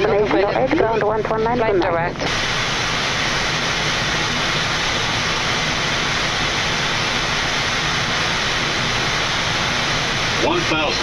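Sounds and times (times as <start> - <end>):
airflow rushing in cockpit: 0.0 - 11.0.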